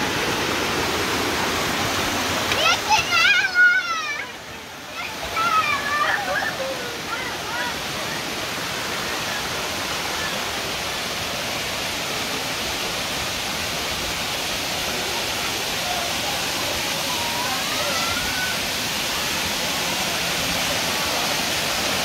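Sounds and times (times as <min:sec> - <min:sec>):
water rushing down stone steps: 0:00.0 - 0:22.0.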